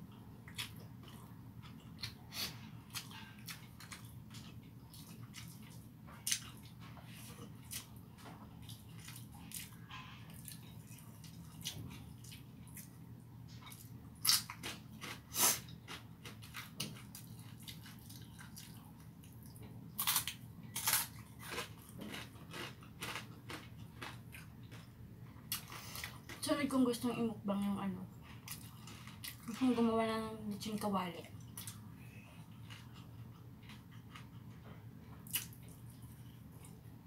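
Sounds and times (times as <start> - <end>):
faint low hum: 0.0 - 37.0
person chewing and mouth smacks: 0.4 - 26.4, 28.2 - 29.5, 31.4 - 36.8.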